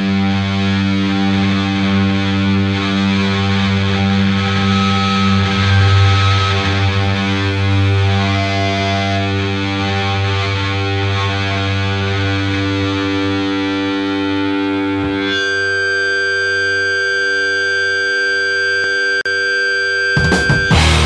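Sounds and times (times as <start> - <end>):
distorted electric guitar chord: 0.0 - 21.0
steady synthesizer tone: 0.0 - 21.0.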